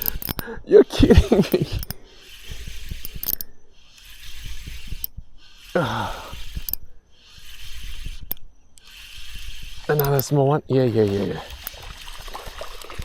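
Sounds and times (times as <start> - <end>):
fishing reel winding: 0.0 - 13.0.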